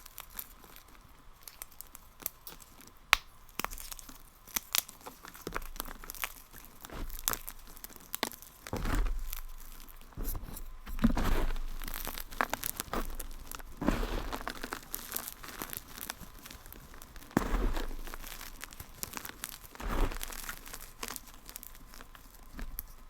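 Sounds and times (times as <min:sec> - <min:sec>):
brittle crackles and crunches: 0:00.0 - 0:23.0.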